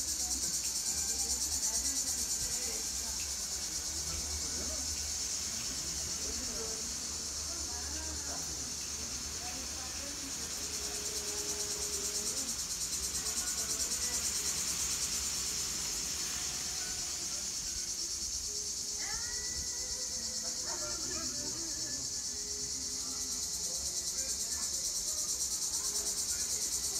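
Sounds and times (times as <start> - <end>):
insects shrilling: 0.0 - 26.9.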